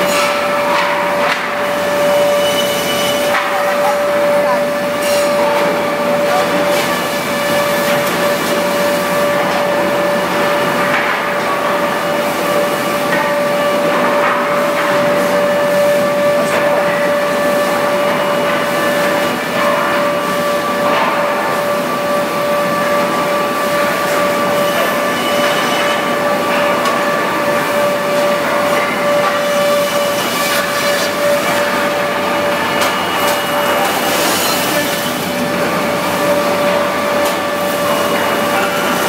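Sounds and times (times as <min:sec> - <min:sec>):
wood planing machine running: 0:00.0 - 0:39.0.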